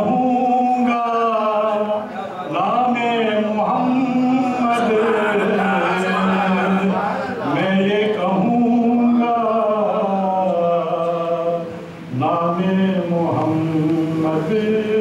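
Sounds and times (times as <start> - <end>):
man singing ornamented notes: 0.0 - 15.0.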